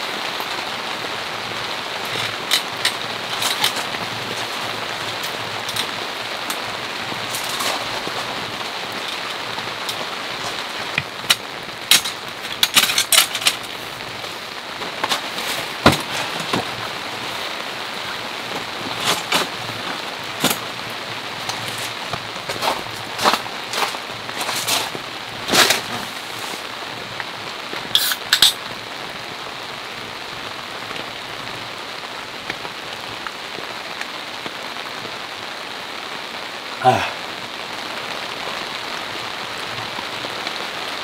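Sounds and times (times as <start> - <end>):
large raindrops tapping: 0.0 - 41.0
steady rain falling: 0.0 - 41.0.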